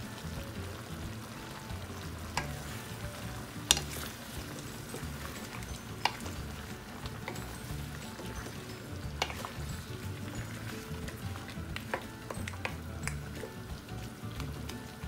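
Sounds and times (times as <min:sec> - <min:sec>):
stew simmering: 0:00.0 - 0:15.0
spatula stirring stew: 0:00.2 - 0:15.0
spatula knocking on pan: 0:01.7 - 0:13.9.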